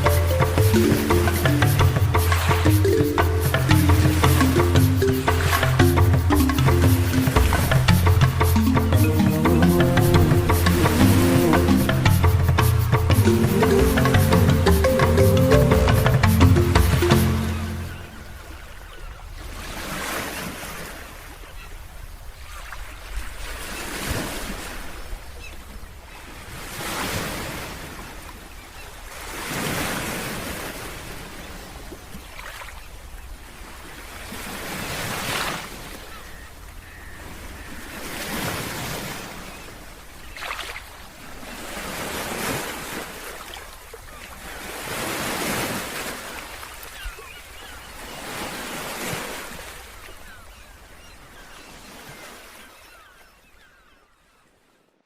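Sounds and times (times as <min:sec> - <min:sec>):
ocean waves breaking on beach: 0:00.0 - 0:53.6.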